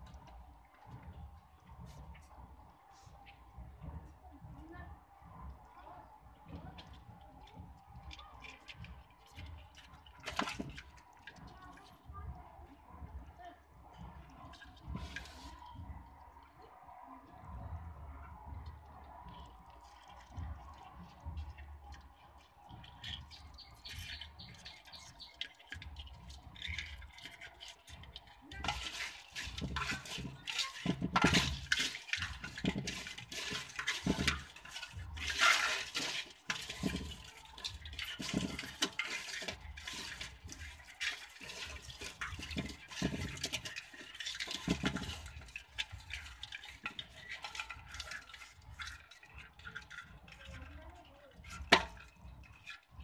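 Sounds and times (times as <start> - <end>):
water splashing in plastic tub: 0.0 - 53.0.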